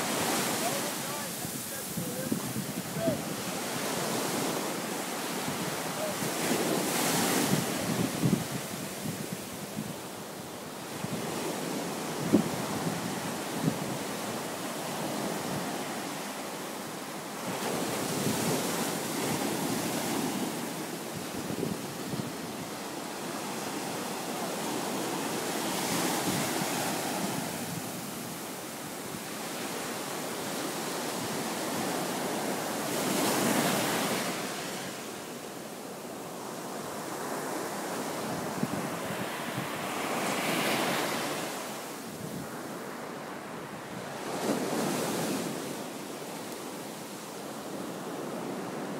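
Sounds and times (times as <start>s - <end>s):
ocean waves breaking on beach: 0.0s - 48.9s.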